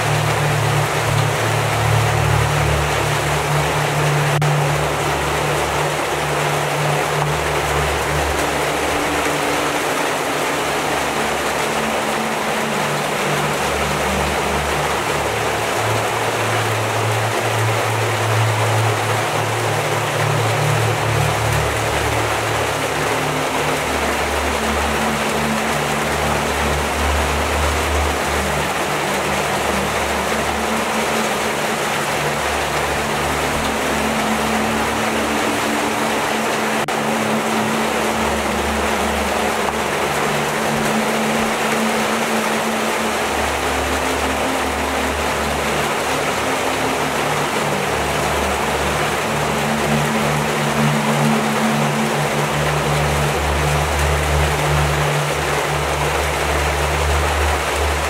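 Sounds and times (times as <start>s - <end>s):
heavy rain on leaves and water: 0.0s - 58.0s
low sustained music notes: 0.0s - 58.0s.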